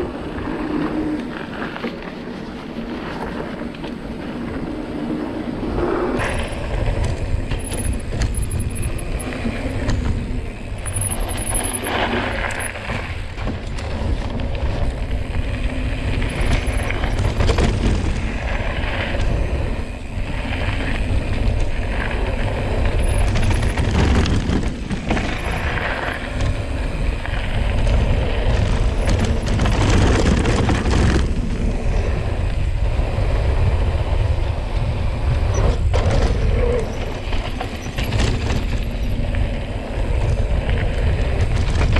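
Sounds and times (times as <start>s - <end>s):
bike tyre noise: 0.0s - 41.9s
wind on microphone: 0.0s - 41.9s
bike rattling and knocking: 6.2s - 32.7s, 34.2s - 41.9s.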